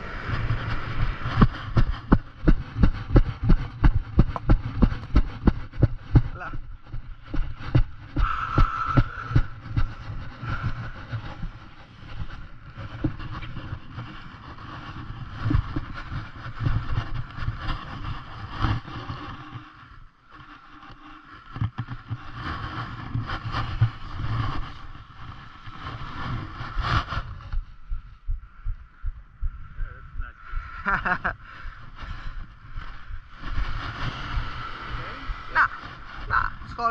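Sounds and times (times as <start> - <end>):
wind rumbling on microphone: 0.0 - 36.9.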